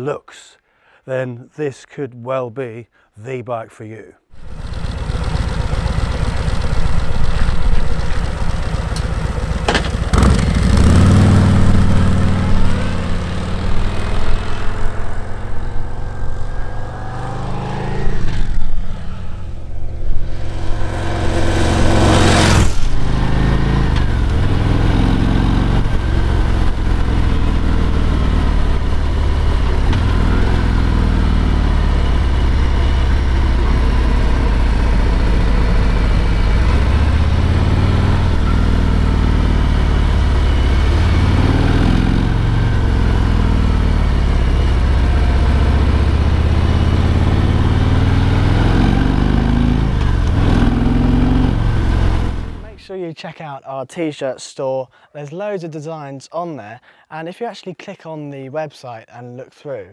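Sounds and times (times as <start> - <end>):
motorcycle engine revving: 4.3 - 52.8.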